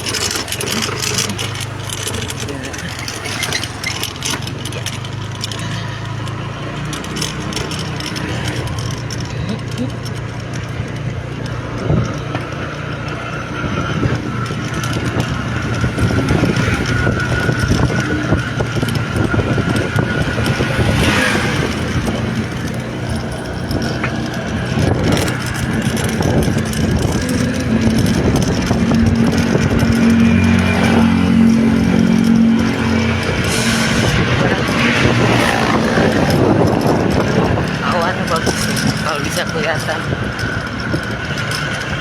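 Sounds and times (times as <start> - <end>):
road noise: 0.0 - 42.0
vehicle engine running: 0.0 - 42.0.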